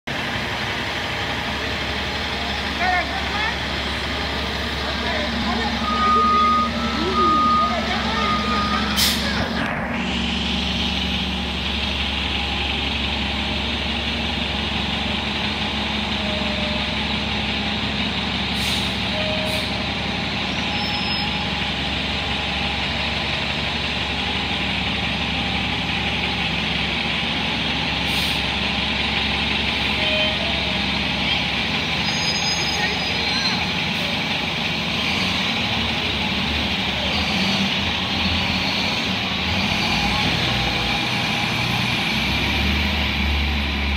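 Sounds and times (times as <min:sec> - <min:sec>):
diesel bus engine idling: 0:00.1 - 0:43.9.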